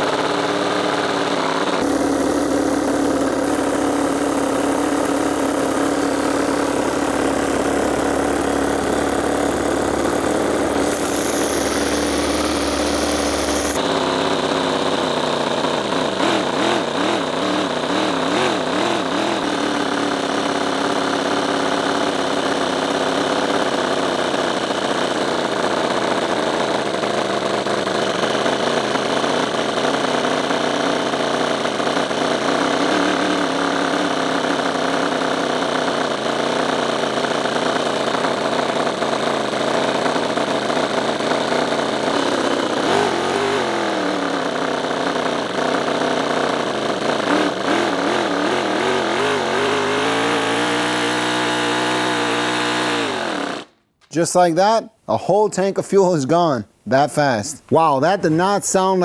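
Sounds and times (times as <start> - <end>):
miniature engine running muffled: 0.0 - 53.8.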